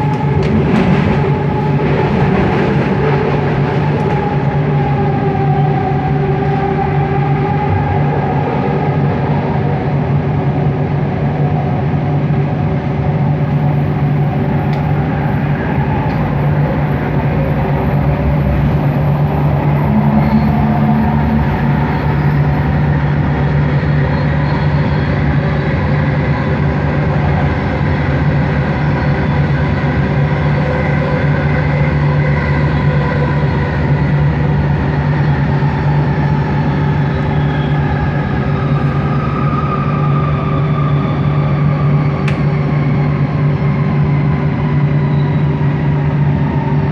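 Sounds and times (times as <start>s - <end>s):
train running at speed: 0.0s - 46.9s.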